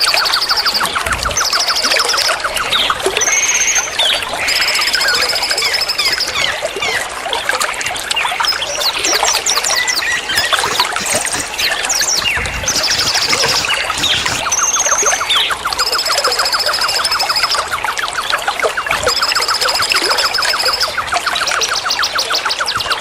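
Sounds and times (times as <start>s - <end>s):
songbirds chirping and trilling: 0.0s - 23.0s
trickling water: 0.0s - 23.0s.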